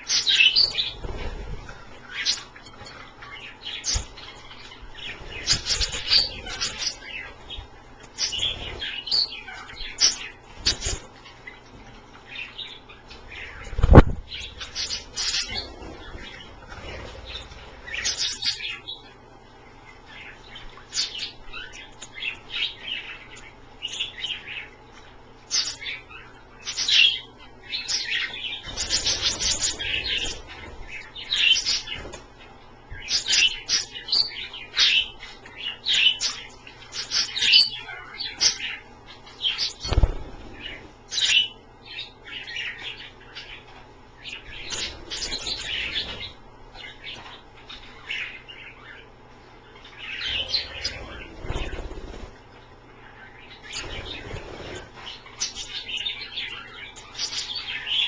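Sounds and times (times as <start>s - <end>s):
birds chirping and chattering: 0.0s - 58.0s.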